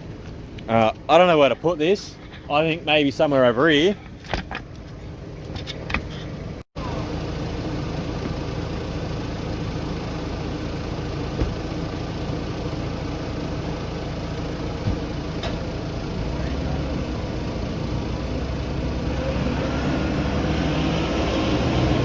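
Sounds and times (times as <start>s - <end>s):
vehicle engine running: 3.9s - 22.0s.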